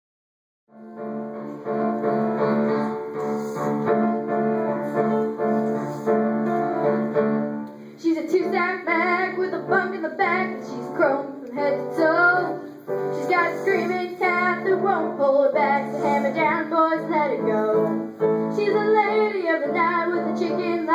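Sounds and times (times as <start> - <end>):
piano chords: 0.7 - 20.9
girl singing into a microphone: 1.8 - 5.5, 7.8 - 20.9.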